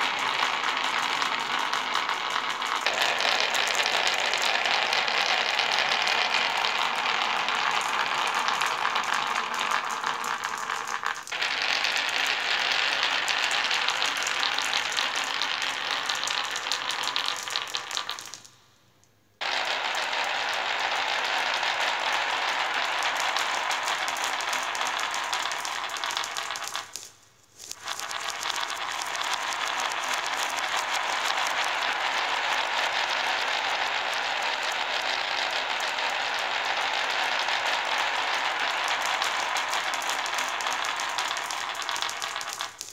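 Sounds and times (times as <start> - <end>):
marbles rattling down wooden track: 0.0 - 18.6, 19.4 - 42.9.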